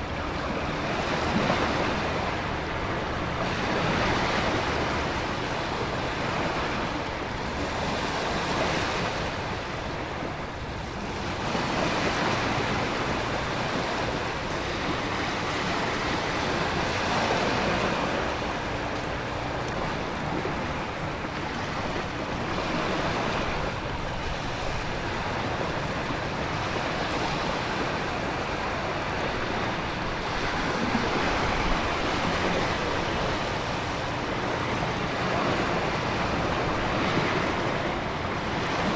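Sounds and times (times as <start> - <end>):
ocean surf: 0.0 - 38.9
wind: 0.0 - 38.9.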